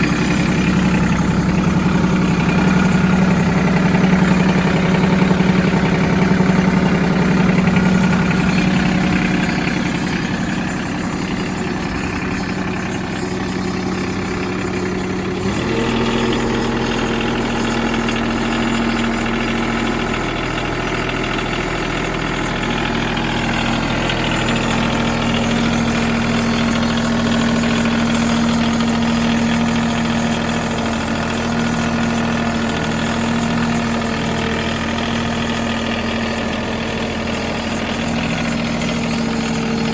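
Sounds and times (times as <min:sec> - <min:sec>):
diesel tractor engine idling: 0:00.0 - 0:39.9.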